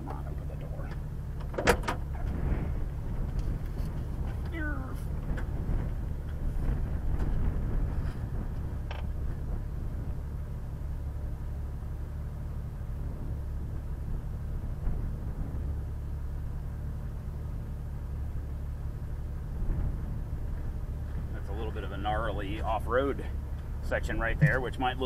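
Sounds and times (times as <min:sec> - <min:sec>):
off-road vehicle engine: 0:00.0 - 0:25.0.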